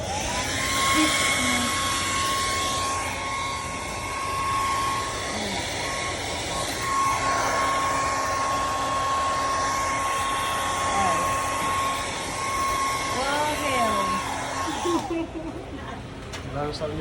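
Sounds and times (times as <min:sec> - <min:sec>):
electric motor whine: 0:00.0 - 0:16.3.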